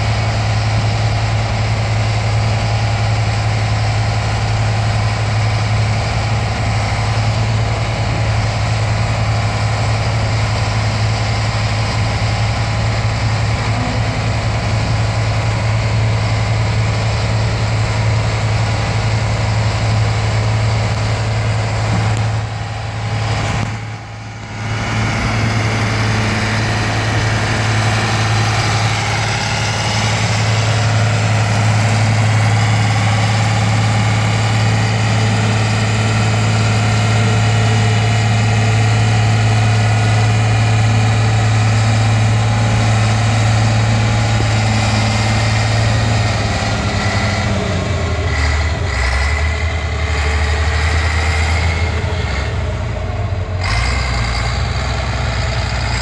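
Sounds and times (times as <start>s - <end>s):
diesel engine low drone: 0.0s - 56.0s.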